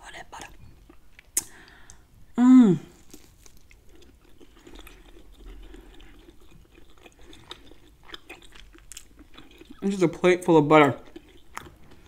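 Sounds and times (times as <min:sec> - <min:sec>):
person chewing meat: 0:00.3 - 0:02.1, 0:02.9 - 0:12.0.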